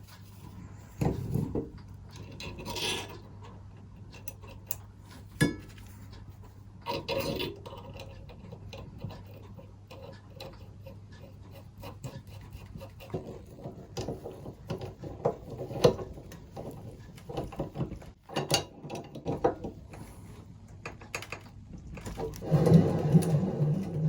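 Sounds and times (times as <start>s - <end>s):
rubbing and scraping on metal parts: 0.0s - 24.0s.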